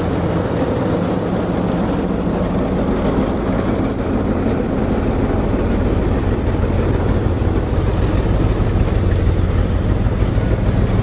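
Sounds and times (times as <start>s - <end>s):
steel train wheels rumbling on rails: 0.0s - 11.0s.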